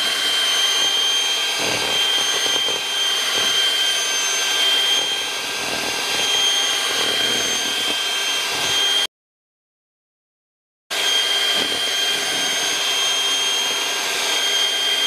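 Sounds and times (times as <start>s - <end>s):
electric hand mixer whining: 0.0s - 9.1s, 10.9s - 15.0s.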